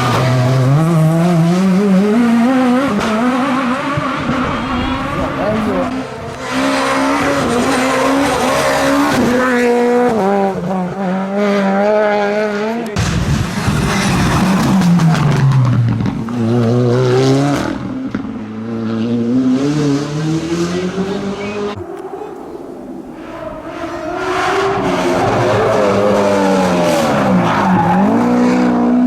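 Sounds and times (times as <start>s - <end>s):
rally car engine accelerating: 0.0s - 29.0s.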